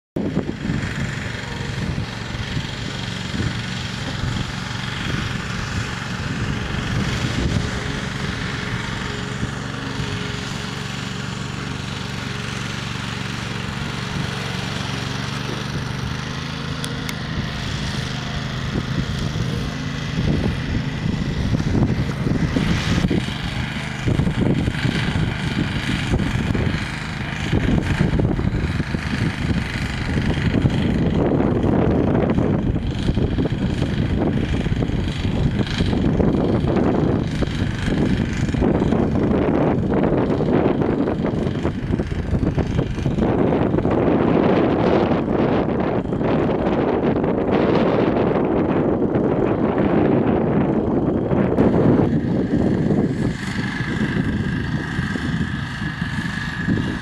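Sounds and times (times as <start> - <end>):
small tractor engine running: 0.2 - 57.0.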